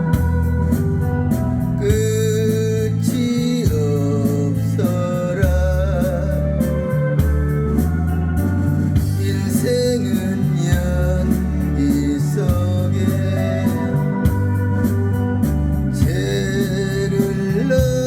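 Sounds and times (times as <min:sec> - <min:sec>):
electronic organ melody: 0:00.0 - 0:18.0
steady drum beat: 0:00.0 - 0:18.0
sustained bass line: 0:00.0 - 0:18.0.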